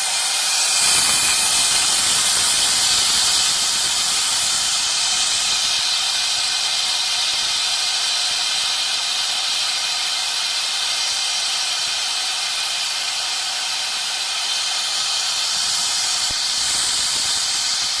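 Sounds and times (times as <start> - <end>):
engraving spindle cutting metal: 0.0 - 18.0.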